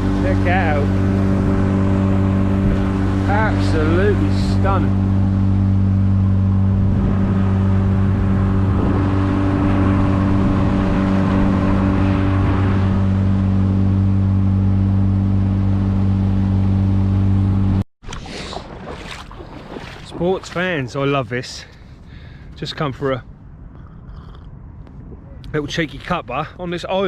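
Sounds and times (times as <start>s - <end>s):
water rushing along hull: 0.0s - 22.3s
boat engine drone: 0.0s - 26.8s.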